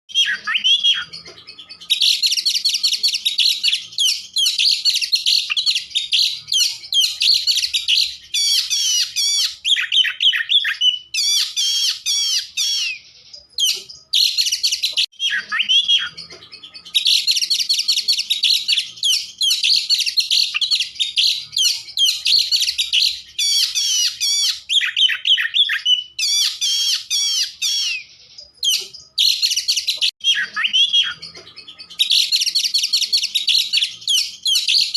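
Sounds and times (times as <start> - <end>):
bird whistles and trills: 0.1 - 34.9.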